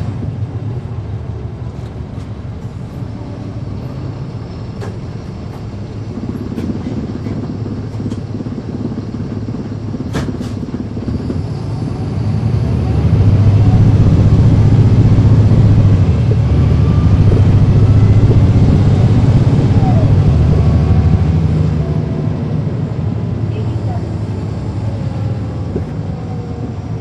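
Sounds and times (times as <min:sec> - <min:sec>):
bus diesel engine rumble: 0:00.0 - 0:27.0.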